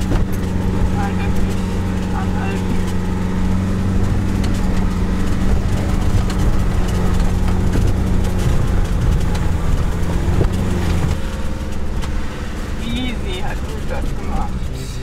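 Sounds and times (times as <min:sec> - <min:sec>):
rattles and clicks from van: 0:00.0 - 0:15.0
van engine hum: 0:00.0 - 0:15.0.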